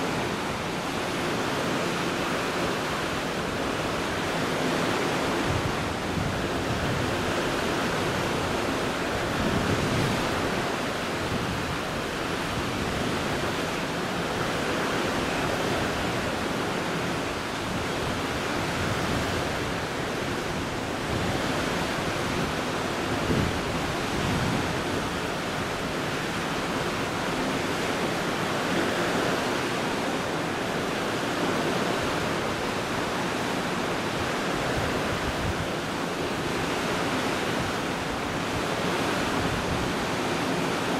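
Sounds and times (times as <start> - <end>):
sea water rushing: 0.0 - 40.9
wind: 0.0 - 40.9.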